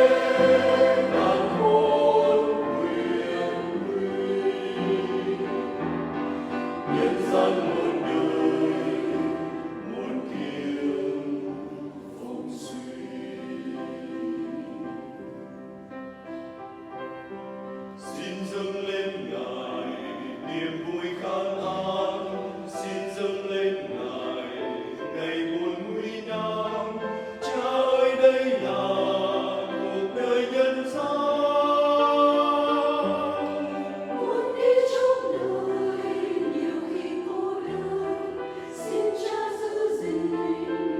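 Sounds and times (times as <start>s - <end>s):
church choir singing a hymn: 0.0s - 40.9s.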